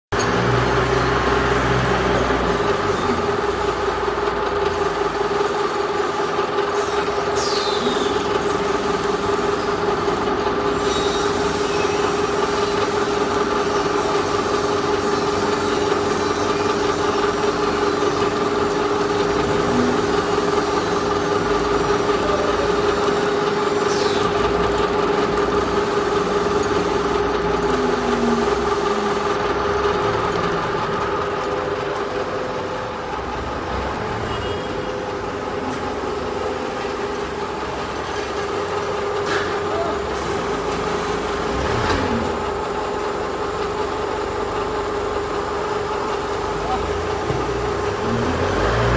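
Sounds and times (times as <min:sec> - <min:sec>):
machine motor humming: 0:00.2 - 0:48.9.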